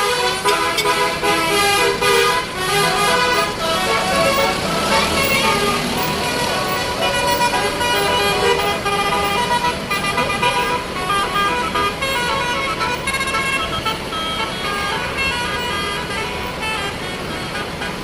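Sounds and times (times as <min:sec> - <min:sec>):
bus horn playing melody: 0:00.0 - 0:18.0.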